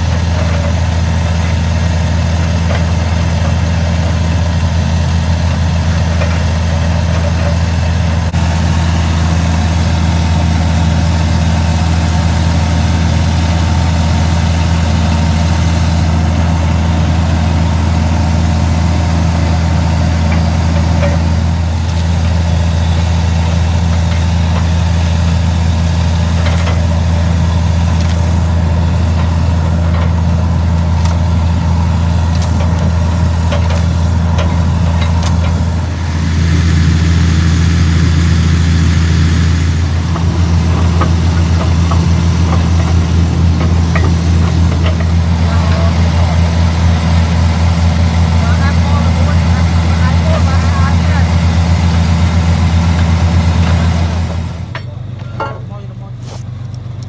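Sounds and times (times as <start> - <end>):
drilling rig engine humming: 0.0 - 57.0.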